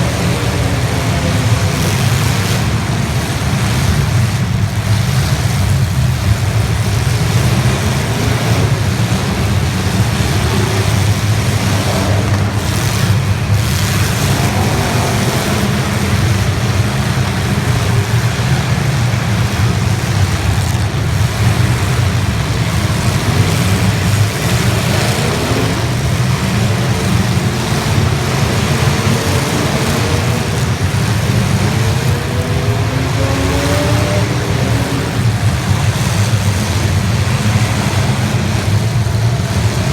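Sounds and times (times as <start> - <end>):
car engines running loudly: 0.0 - 39.9
engine revving up: 0.0 - 39.9.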